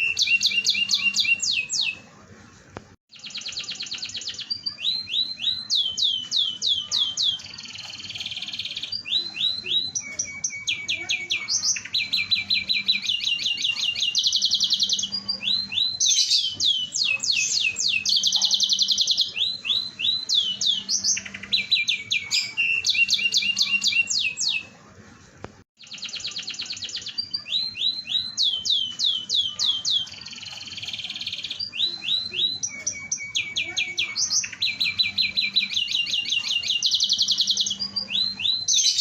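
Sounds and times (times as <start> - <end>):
canary singing trills: 0.0 - 2.1, 3.1 - 24.8, 25.8 - 39.0.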